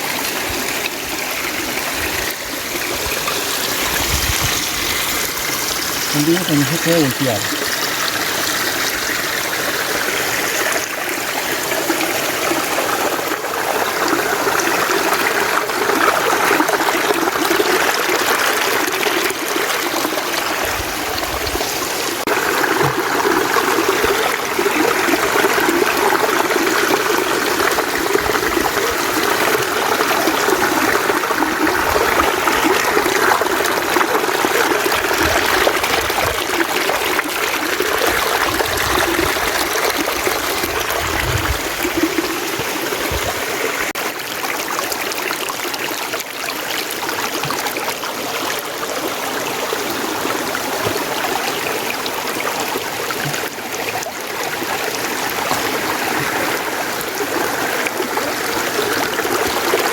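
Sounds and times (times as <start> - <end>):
stream flowing water: 0.0 - 59.9.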